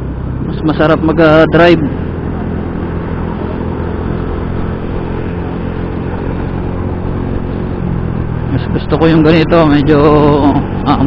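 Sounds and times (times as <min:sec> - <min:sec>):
motorcycle engine running: 0:00.0 - 0:11.0
road noise: 0:00.0 - 0:11.0
wind noise: 0:01.7 - 0:11.0.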